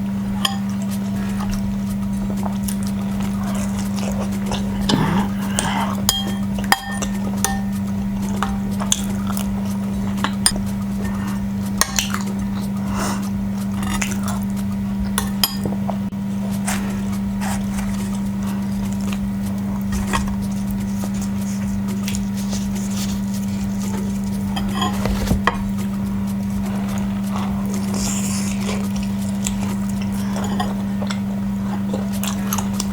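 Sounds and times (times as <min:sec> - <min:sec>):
steady low hum: 0:00.0 - 0:32.9
utensils clinking on a plate: 0:00.4 - 0:01.6, 0:02.3 - 0:14.5, 0:15.1 - 0:15.9, 0:19.8 - 0:25.8, 0:26.7 - 0:32.9.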